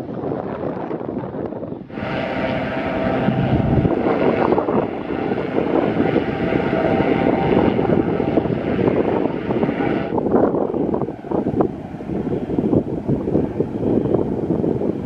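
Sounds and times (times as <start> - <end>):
aircraft engine running: 0.0 - 15.0
wind buffeting microphone: 0.0 - 15.0.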